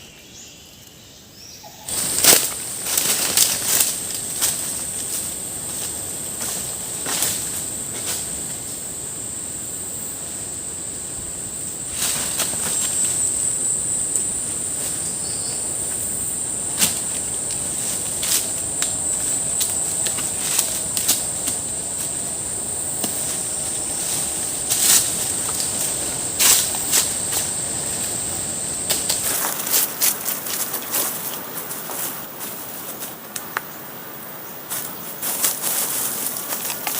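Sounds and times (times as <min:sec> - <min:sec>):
forest background noise: 0:00.0 - 0:36.9
insect droning: 0:00.0 - 0:36.9.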